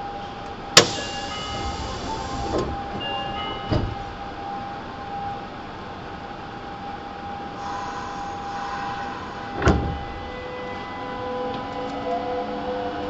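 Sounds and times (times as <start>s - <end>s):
train hum: 0.0s - 13.0s.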